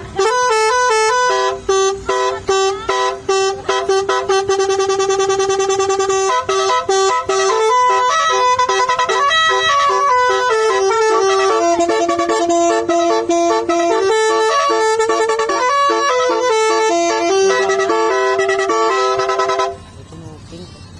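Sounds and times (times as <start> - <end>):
multi-trumpet air horn melody: 0.0 - 19.8.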